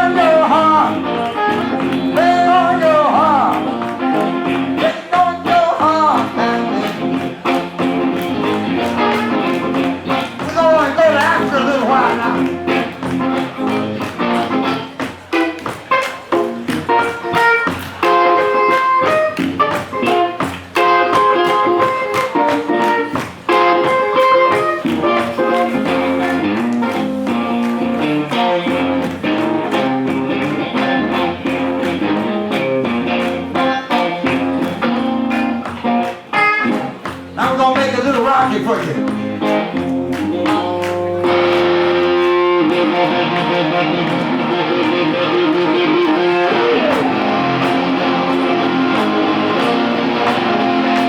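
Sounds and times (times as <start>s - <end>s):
blues guitar playing: 0.0s - 51.0s.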